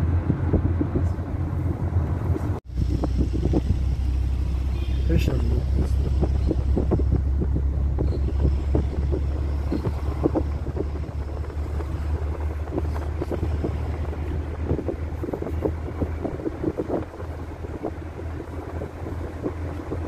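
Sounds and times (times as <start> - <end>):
moving car rumble: 0.0 - 20.0
wind buffeting microphone: 0.0 - 20.0.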